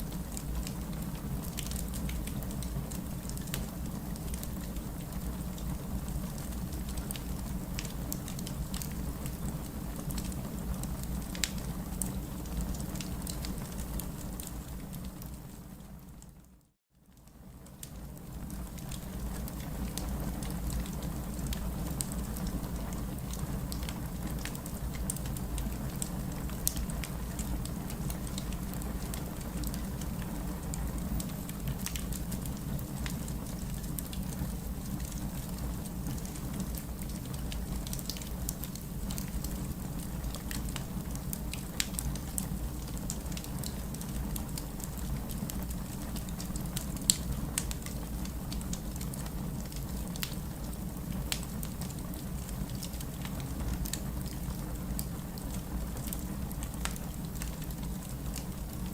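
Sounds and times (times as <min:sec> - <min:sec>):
wood fire crackling and popping: 0:00.1 - 0:16.2, 0:17.2 - 0:58.9.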